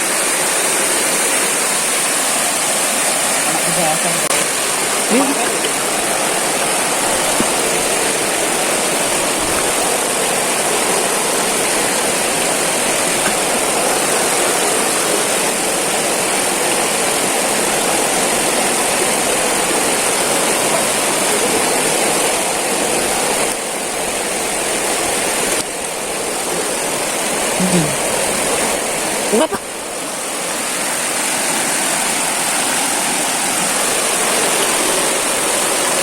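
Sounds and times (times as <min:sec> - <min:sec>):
river water rushing at waterfall: 0:00.0 - 0:36.0.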